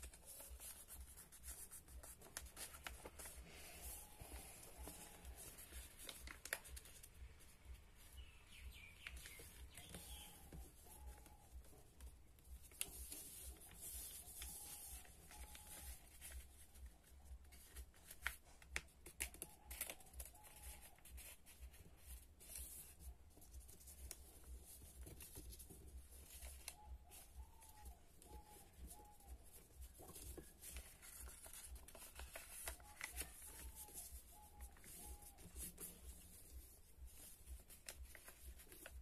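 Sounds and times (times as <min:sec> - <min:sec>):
paper rustling and crinkling: 0:00.0 - 0:39.0.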